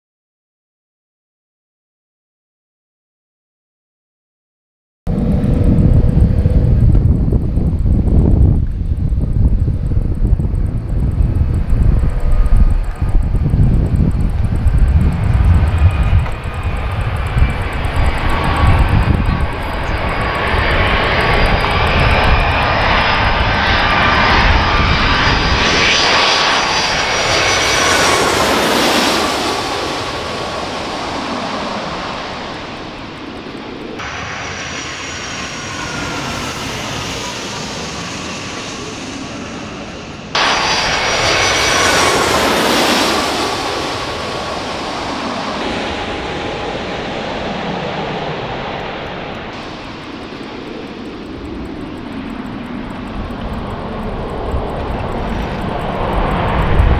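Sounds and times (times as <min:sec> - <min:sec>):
jet aircraft roaring overhead: 0:05.1 - 0:56.9.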